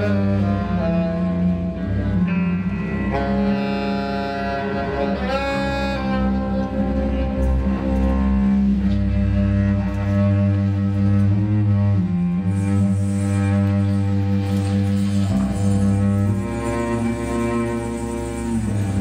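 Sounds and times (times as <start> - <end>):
bowed strings drone: 0.0 - 19.0
long held sliding notes: 0.0 - 19.0.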